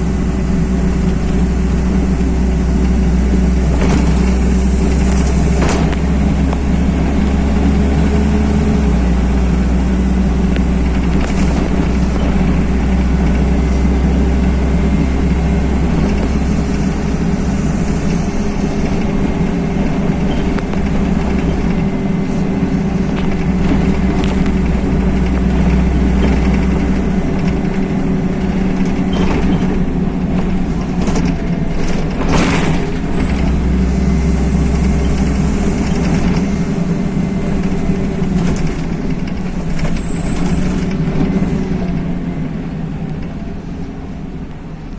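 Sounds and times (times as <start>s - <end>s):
diesel engine drone: 0.0s - 44.9s
road rumble: 0.0s - 44.9s.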